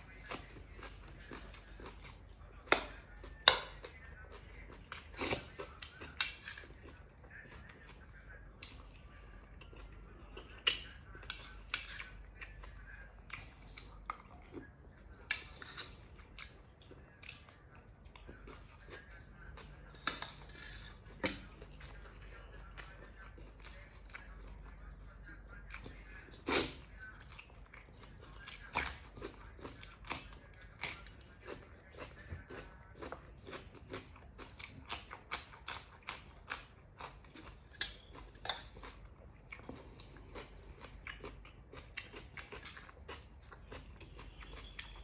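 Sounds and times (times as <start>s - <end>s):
chewing: 0.0s - 45.0s.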